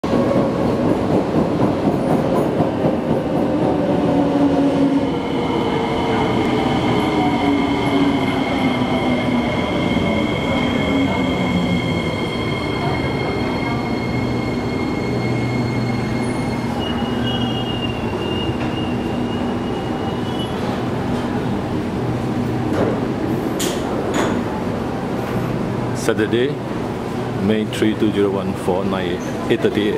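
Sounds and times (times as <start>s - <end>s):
train rumbling and whining: 0.0s - 29.8s.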